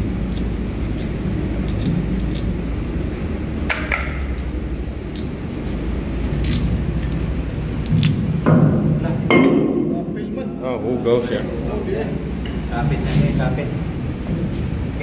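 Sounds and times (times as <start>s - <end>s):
low rumble of machinery: 0.0s - 15.0s.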